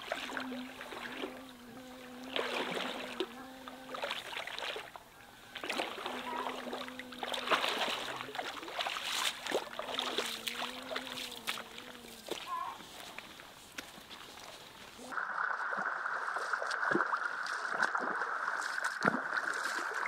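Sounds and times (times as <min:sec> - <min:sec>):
person wading through water: 0:00.0 - 0:20.0.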